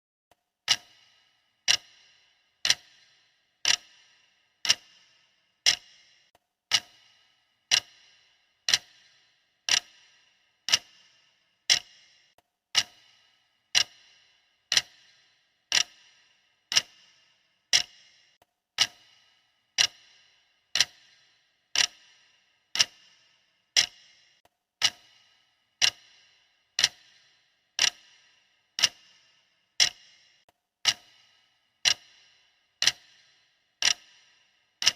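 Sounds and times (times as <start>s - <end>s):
clock ticking: 0.3s - 34.9s.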